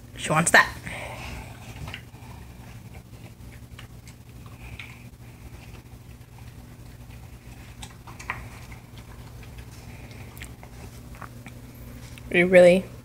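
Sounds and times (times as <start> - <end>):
low steady hum: 0.0 - 13.0
puppy eating from bowl: 0.2 - 12.9.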